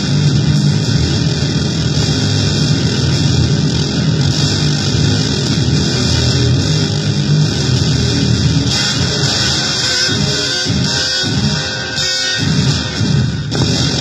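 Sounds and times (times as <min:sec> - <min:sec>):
distorted buzzing noise: 0:00.0 - 0:14.0.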